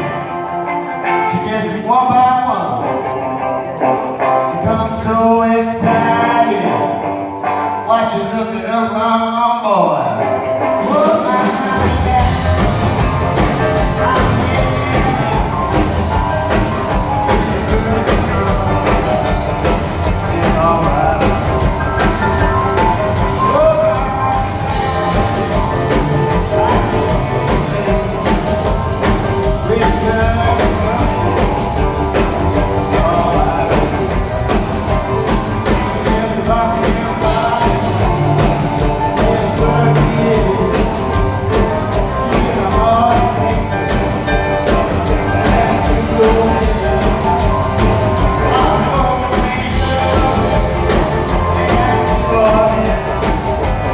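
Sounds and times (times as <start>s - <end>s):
electric guitar: 0.0s - 53.9s
live rock band playing: 0.0s - 53.9s.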